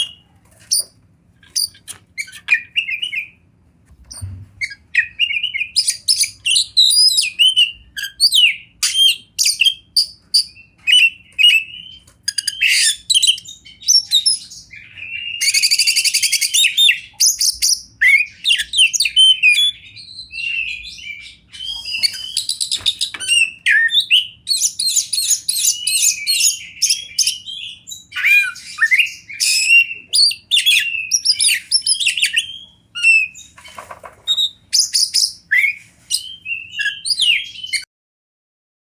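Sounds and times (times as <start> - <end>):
bird singing whistled phrases: 4.6 - 33.5, 34.3 - 37.9.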